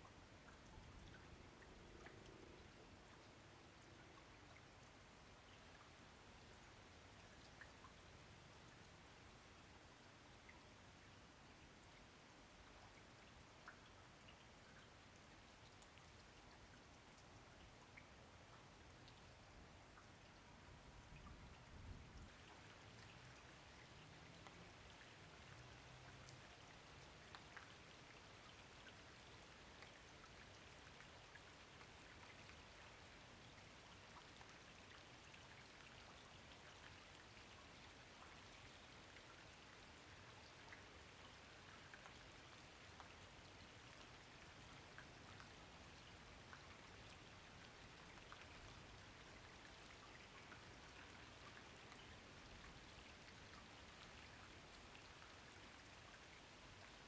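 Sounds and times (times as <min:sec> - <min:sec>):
faint steady rain: 0:00.0 - 0:57.0.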